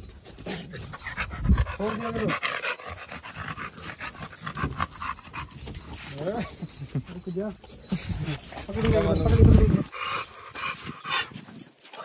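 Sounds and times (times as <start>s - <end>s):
dog panting hard: 0.0s - 12.0s.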